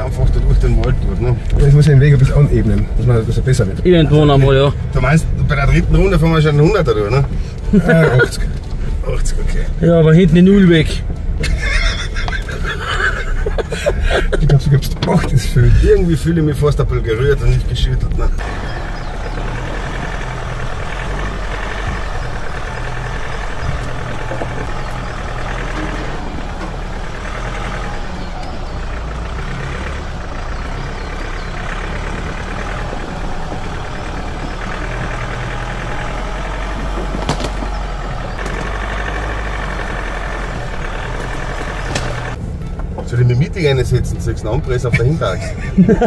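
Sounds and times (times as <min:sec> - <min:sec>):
truck engine running at low revs: 0:00.0 - 0:46.0.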